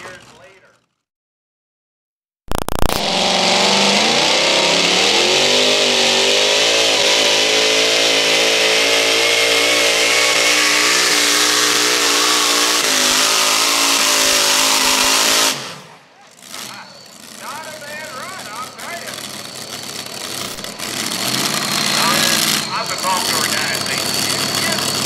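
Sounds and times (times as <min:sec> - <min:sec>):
tractor engine at full throttle: 0:00.0 - 0:00.9, 0:02.6 - 0:25.0.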